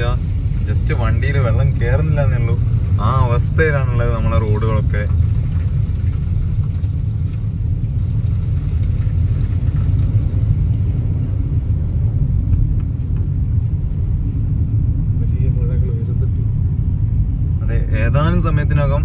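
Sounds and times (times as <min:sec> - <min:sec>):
car engine: 0:00.0 - 0:19.0
road and tyre noise: 0:00.0 - 0:19.0.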